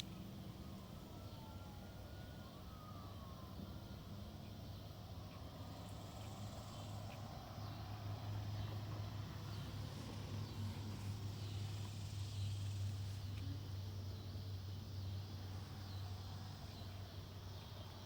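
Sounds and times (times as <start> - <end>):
distant engine droning: 0.0 - 18.0.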